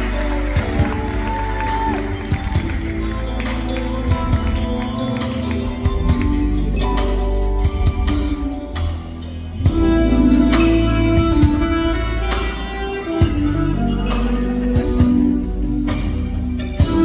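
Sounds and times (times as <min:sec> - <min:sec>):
keyboard and bass accompaniment: 0:00.0 - 0:17.0
soprano saxophone melody: 0:00.0 - 0:17.0.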